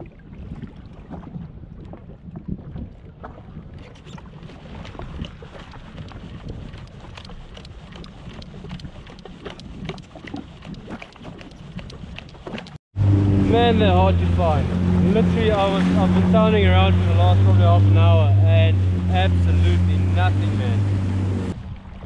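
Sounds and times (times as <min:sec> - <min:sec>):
waves slapping against hull: 0:00.0 - 0:22.0
wind buffeting microphone: 0:00.0 - 0:22.0.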